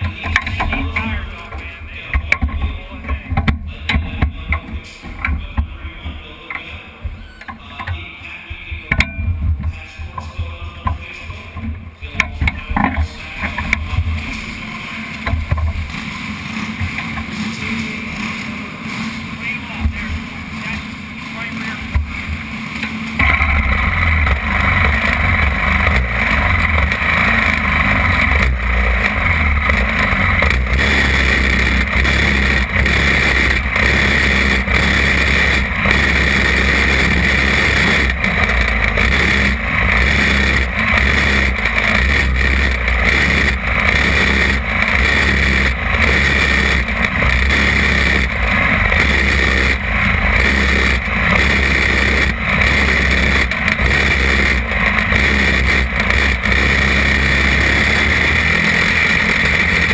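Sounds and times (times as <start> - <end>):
kart engine at high revs: 0.0 - 6.4, 10.8 - 59.9.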